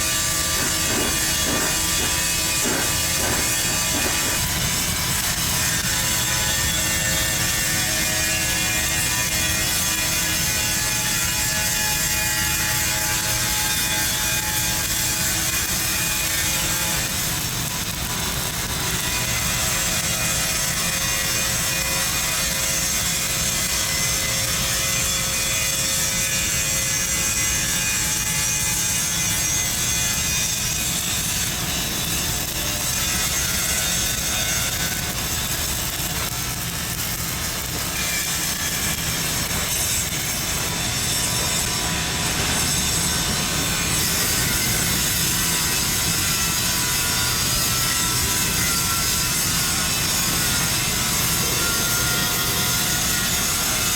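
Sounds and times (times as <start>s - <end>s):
welding arc crackling and hissing: 0.0s - 53.9s.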